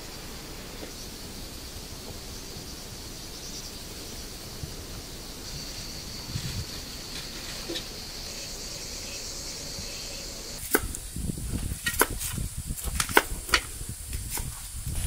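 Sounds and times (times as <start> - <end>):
high hiss-like buzz: 0.0 - 15.0.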